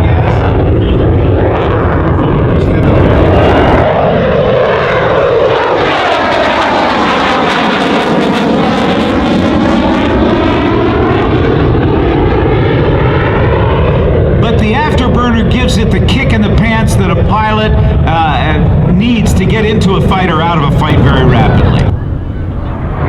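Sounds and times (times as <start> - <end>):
jet engines roaring past: 0.0 - 23.0.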